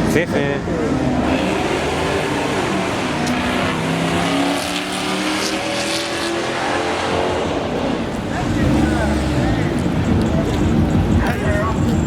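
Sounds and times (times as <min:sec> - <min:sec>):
car engine at high revs: 0:00.0 - 0:12.0
tires squealing: 0:00.0 - 0:12.0.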